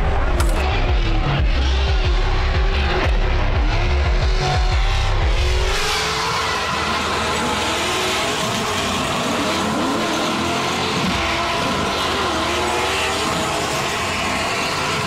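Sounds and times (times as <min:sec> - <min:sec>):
car engine at high revs: 0:00.0 - 0:15.0
tire noise: 0:00.0 - 0:15.0.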